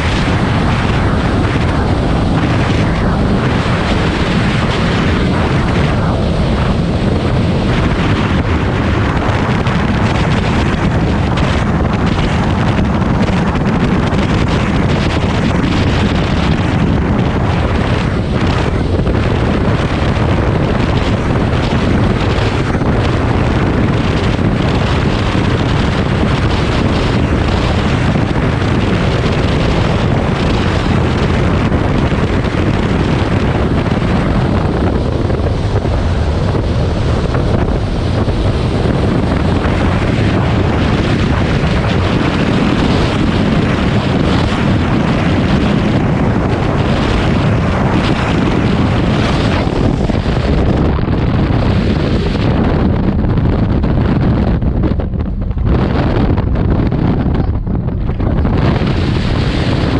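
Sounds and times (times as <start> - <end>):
water rushing: 0.0 - 53.1
engine noise: 0.0 - 59.9
wind buffeting microphone: 0.0 - 59.9.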